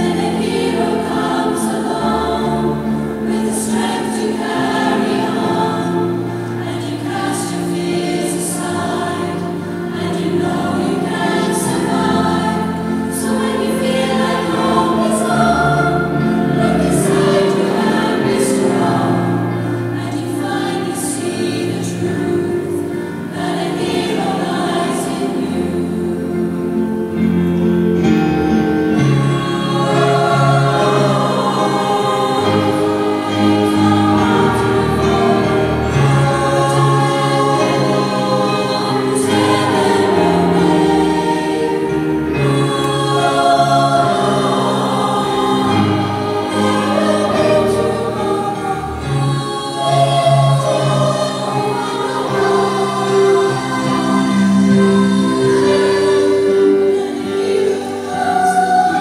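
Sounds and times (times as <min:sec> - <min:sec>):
low keyboard notes: 0:00.0 - 0:59.0
women's choir singing: 0:00.0 - 0:59.0.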